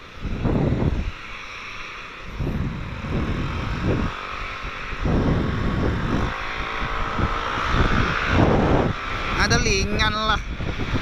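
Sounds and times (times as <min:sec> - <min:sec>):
scooter engine running: 0:00.0 - 0:11.0
wind buffeting microphone: 0:00.0 - 0:11.0.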